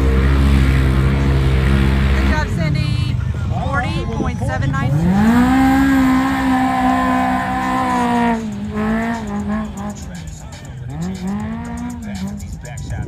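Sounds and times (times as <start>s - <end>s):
engine revving hard: 0.0s - 12.8s.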